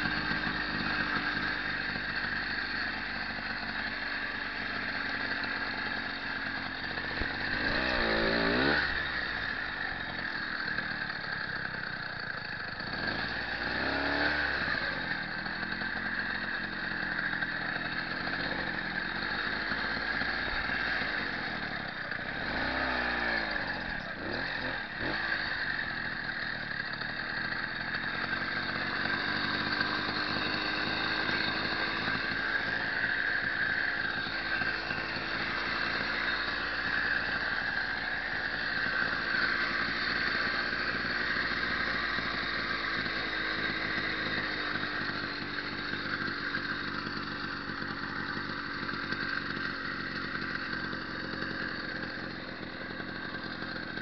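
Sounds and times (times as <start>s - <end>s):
two-stroke bicycle engine running: 0.0s - 54.0s.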